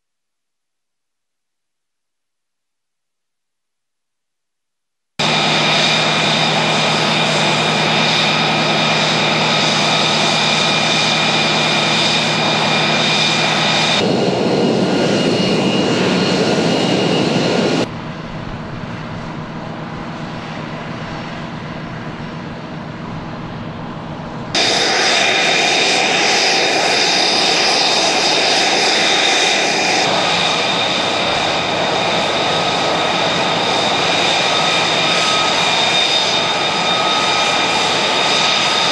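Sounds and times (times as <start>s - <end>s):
jet engine roaring with whine: 5.2s - 38.9s.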